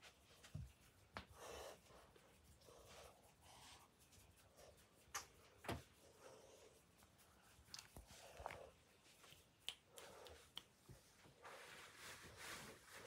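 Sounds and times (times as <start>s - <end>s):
soft rustle: 0.0s - 13.0s.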